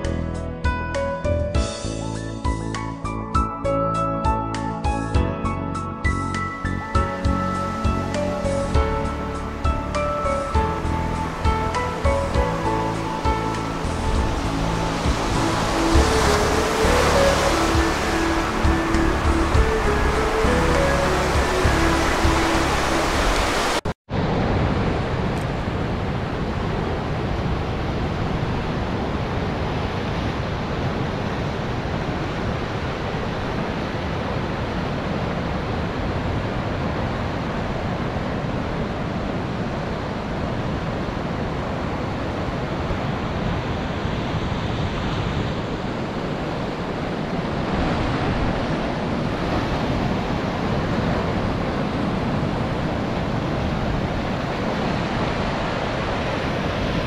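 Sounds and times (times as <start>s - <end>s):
ocean surf on beach: 6.3s - 57.0s
wind buffeting microphone: 7.0s - 57.0s.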